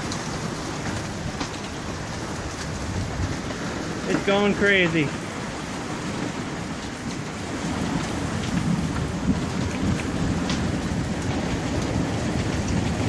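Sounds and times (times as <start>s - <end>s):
heavy hail pelting down: 0.0s - 13.0s.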